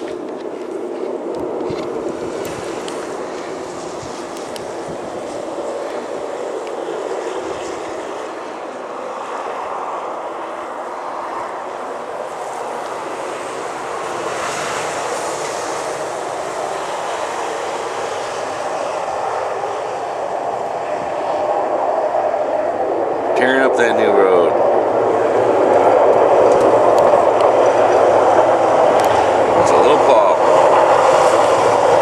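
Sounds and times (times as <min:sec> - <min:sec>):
snowplow blade scraping road: 0:00.0 - 0:32.0.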